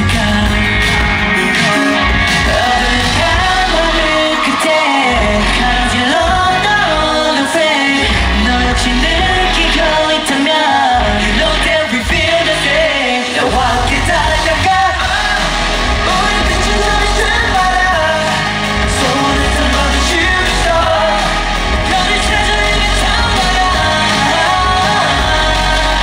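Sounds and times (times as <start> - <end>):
dance track with heavy bass beat: 0.0 - 26.0
male group vocals: 0.0 - 26.0.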